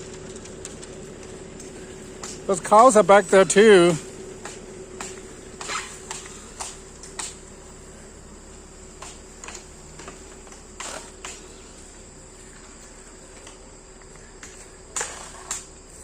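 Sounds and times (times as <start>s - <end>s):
low steady hum: 0.0s - 16.0s
insect trilling: 1.6s - 16.0s.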